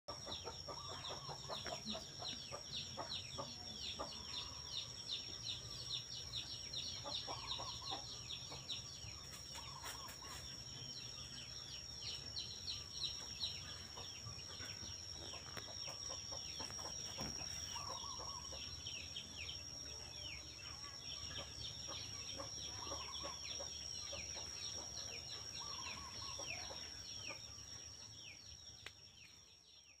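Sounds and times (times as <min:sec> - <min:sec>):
chickens clucking: 0:00.1 - 0:10.9, 0:12.2 - 0:28.0
small birds chirping: 0:00.1 - 0:30.0.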